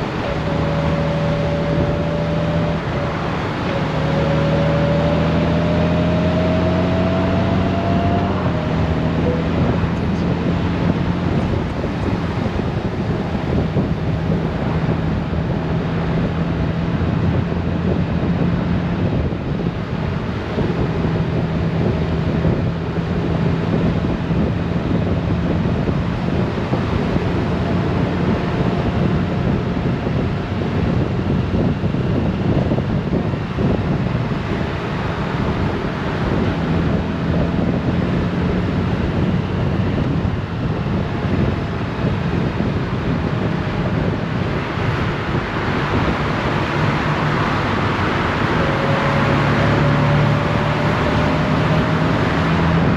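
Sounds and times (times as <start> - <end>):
motorcycle engine hum: 0.0 - 52.9
wind buffeting microphone: 0.0 - 52.9.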